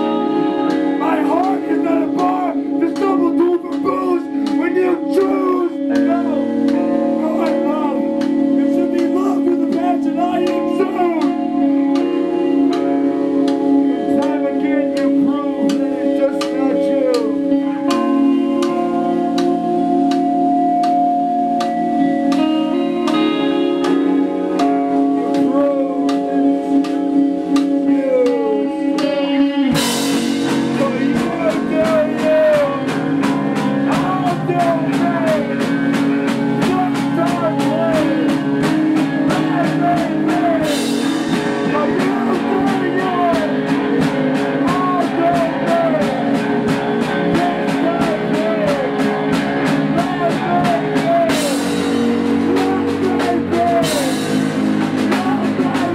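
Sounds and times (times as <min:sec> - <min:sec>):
electric guitar notes: 0:00.0 - 0:55.9
rock band playing: 0:00.0 - 0:55.9.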